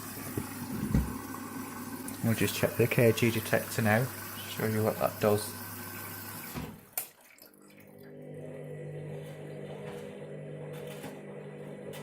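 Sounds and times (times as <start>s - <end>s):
washing machine drum motor hum: 0.0s - 6.9s, 8.0s - 12.0s.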